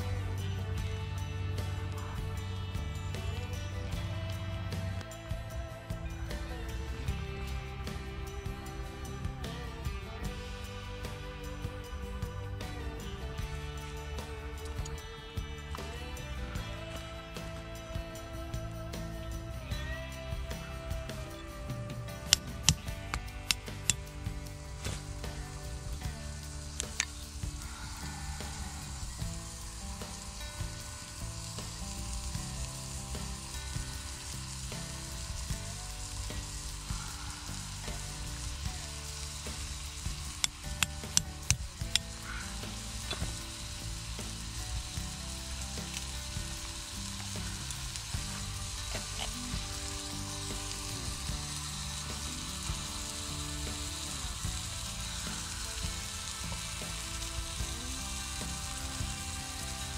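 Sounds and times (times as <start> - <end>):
fire crackling and hissing: 0.0 - 59.9
soft background music: 0.0 - 59.9.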